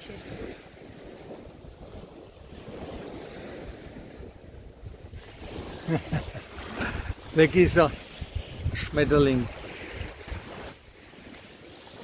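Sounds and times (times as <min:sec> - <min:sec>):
surf washing on beach: 0:00.0 - 0:12.0
wind rumbling on microphone: 0:00.0 - 0:12.0.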